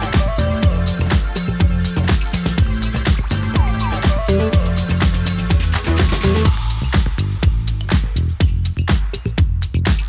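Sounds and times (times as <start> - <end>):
dance music with steady beat: 0.0 - 10.0.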